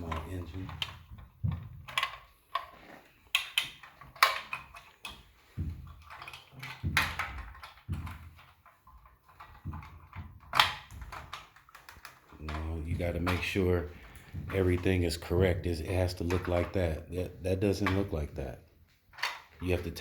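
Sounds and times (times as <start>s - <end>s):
plastic parts clicking and knocking: 0.0s - 20.0s.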